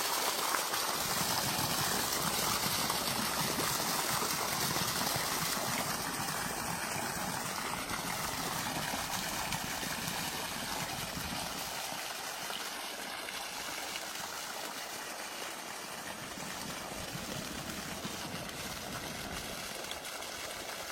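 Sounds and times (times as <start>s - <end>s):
flowing water: 0.0s - 20.9s.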